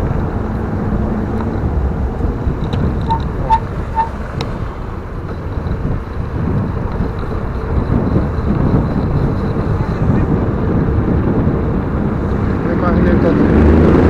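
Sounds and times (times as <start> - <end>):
bicycle tyre noise: 0.0 - 12.9
wind rumbling on microphone: 0.0 - 14.0.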